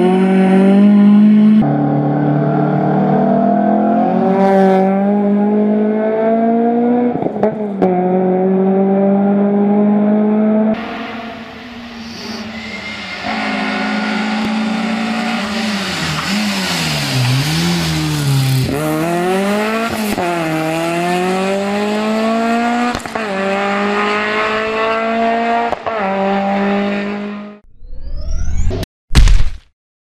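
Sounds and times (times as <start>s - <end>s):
rally car engine accelerating: 0.0s - 27.6s.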